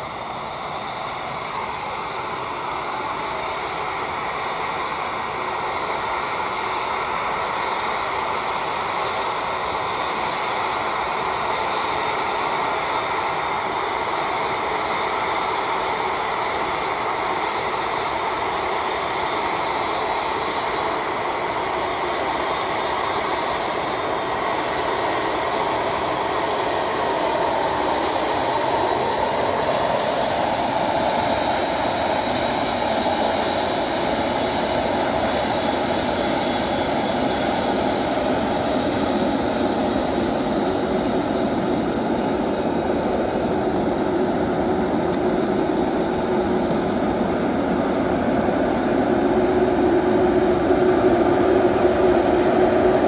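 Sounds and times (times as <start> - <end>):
jet engines roaring with whine: 0.0 - 53.0.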